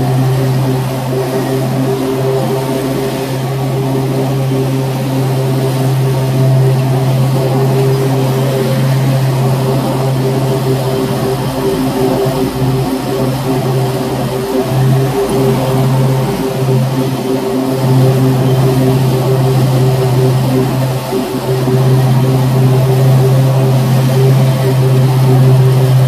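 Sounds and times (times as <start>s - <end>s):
lawn mower engine cutting grass: 0.0s - 26.0s.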